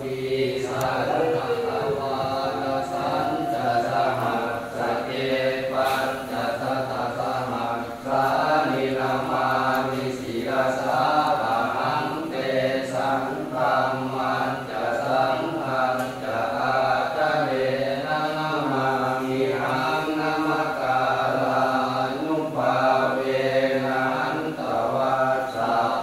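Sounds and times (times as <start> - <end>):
voices chanting: 0.0 - 26.0.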